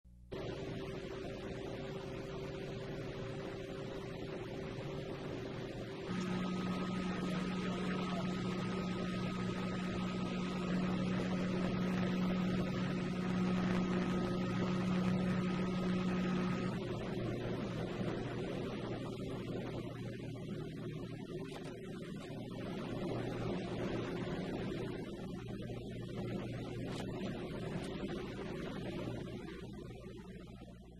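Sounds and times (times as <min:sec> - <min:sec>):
low hum with higher whine: 0:00.0 - 0:30.9
conveyor machine hum: 0:00.3 - 0:30.9.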